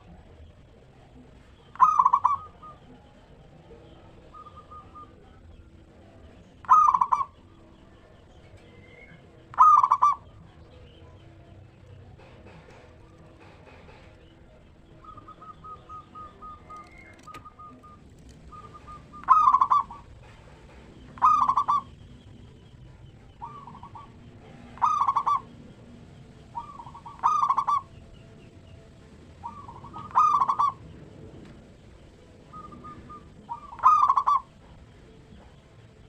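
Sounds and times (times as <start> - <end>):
dove cooing: 0.0 - 35.7.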